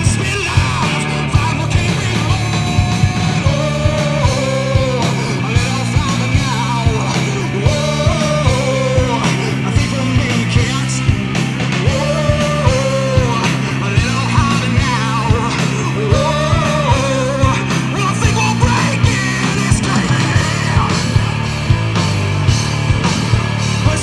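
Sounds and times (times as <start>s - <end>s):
person singing: 0.0s - 11.1s, 11.8s - 21.2s
rock band playing live: 0.0s - 24.0s.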